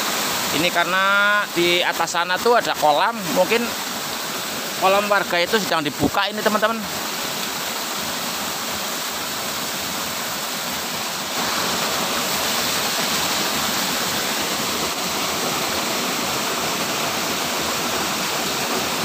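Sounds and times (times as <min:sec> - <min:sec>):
water pouring into a pool: 0:02.6 - 0:19.0.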